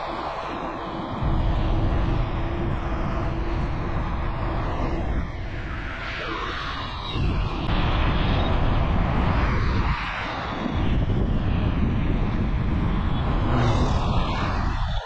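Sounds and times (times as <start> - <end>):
road and wind noise from vehicle: 0.0 - 15.0.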